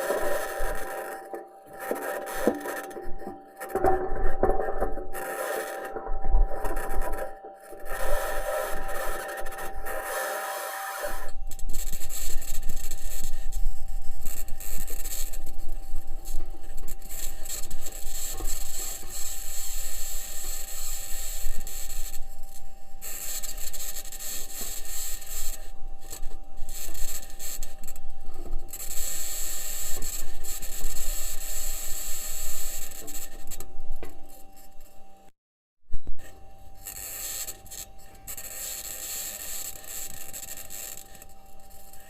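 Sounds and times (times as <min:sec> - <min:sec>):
steady high whine: 0:00.0 - 0:35.3, 0:36.0 - 0:42.0.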